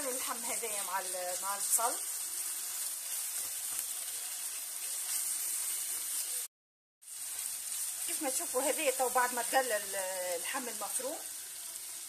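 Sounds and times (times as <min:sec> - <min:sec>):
meat and onion sizzling in oil: 0:00.0 - 0:12.0.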